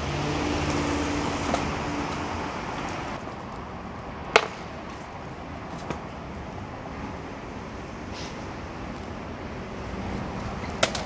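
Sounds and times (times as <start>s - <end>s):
city background noise: 0.0s - 11.0s.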